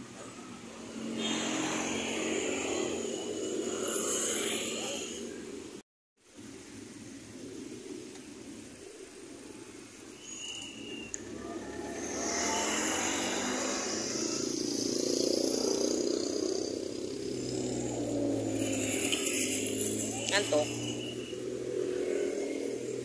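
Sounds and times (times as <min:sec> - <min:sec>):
motor scooters passing: 0:00.0 - 0:05.8, 0:07.1 - 0:23.0.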